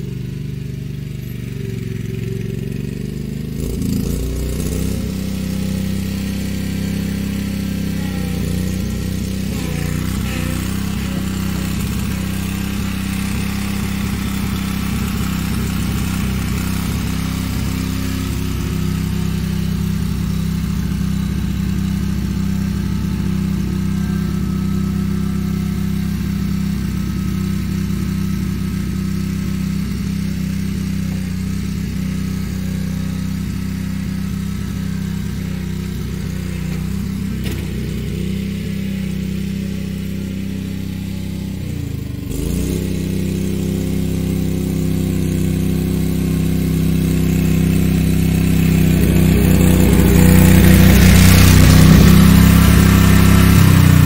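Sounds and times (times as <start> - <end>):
riding lawn mower engine: 0.0 - 54.0.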